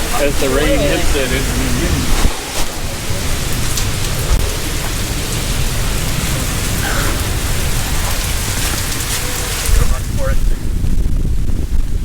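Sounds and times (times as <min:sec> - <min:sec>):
heavy rain pelting: 0:00.0 - 0:12.0
wind rumble on microphone: 0:00.0 - 0:12.0.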